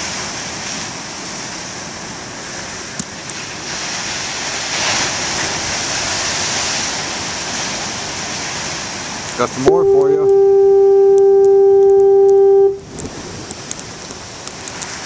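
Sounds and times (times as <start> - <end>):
ocean surf rushing: 0.0 - 15.0
wave breaking: 0.0 - 15.0.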